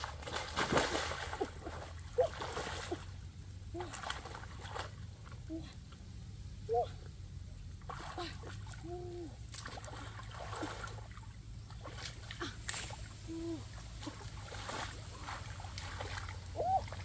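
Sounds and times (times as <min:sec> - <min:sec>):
water splashing and sloshing: 0:00.0 - 0:06.8, 0:07.5 - 0:17.0.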